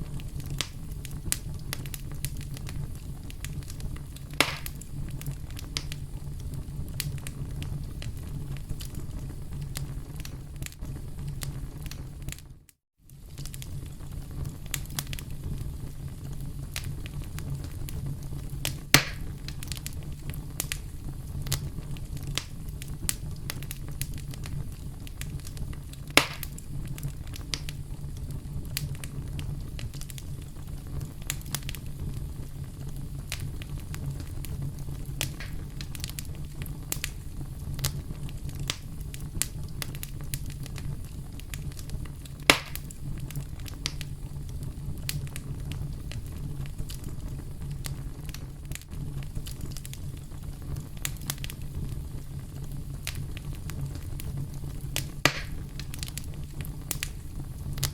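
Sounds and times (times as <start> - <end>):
campfire crackling: 0.0 - 57.9
loud fire pops: 0.0 - 57.9.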